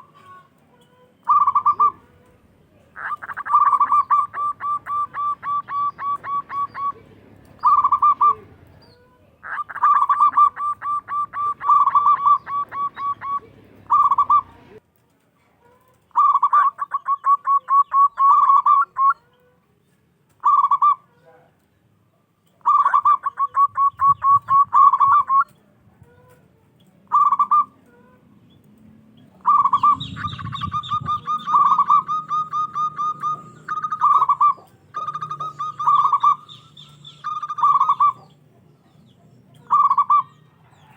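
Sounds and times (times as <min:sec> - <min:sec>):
dove cooing: 0:00.0 - 0:14.8, 0:16.1 - 0:19.4, 0:20.4 - 0:21.2, 0:22.6 - 0:26.4, 0:27.0 - 0:28.2, 0:29.3 - 0:38.9, 0:39.5 - 0:40.9.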